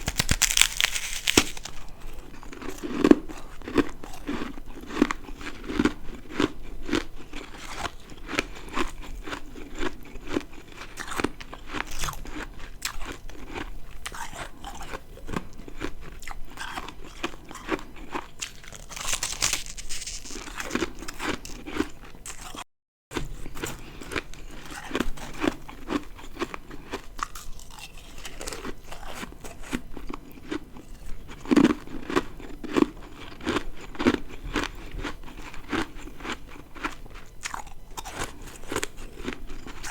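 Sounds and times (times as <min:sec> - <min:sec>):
ice crunching while chewed: 0:00.0 - 0:22.6, 0:23.2 - 0:39.9.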